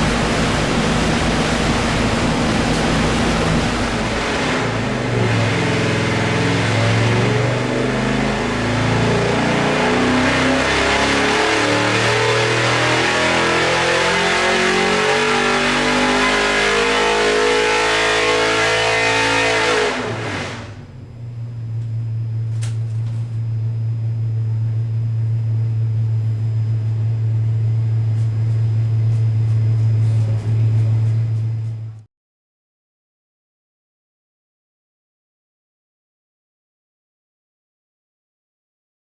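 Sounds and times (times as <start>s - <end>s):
race engine revving and idling: 0.0s - 32.1s.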